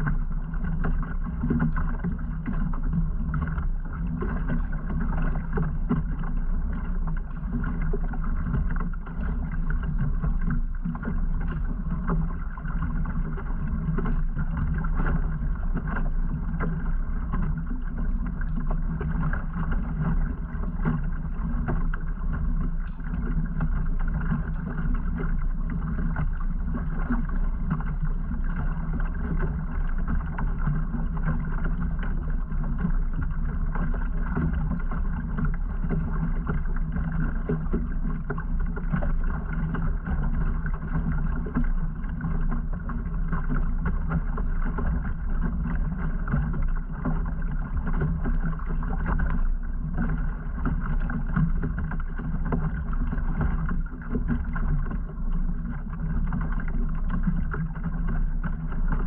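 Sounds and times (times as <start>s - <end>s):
kayak drive humming: 0.0s - 59.0s
water running along hull: 0.0s - 59.0s.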